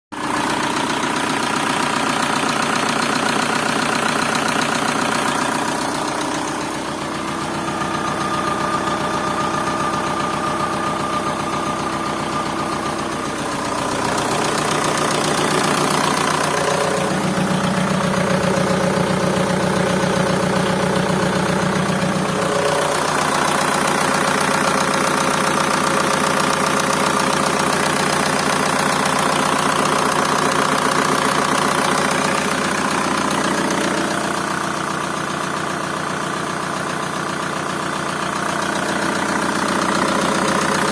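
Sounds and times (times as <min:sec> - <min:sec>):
engine running: 0:00.1 - 0:40.9.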